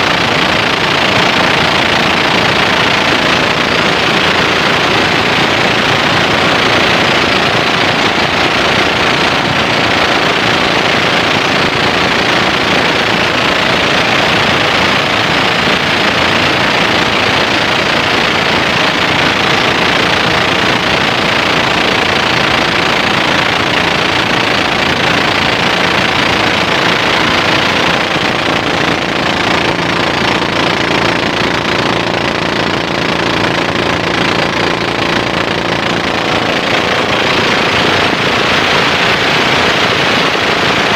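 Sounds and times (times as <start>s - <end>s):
boat engine knocking: 0.0s - 40.9s.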